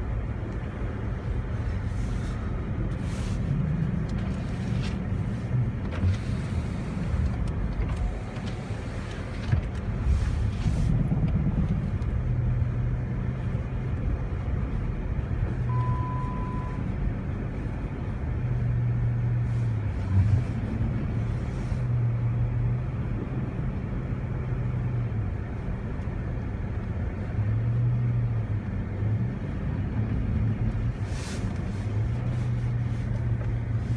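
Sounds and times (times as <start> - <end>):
car engine drone: 0.0 - 33.9
tyre and road noise: 0.0 - 33.9.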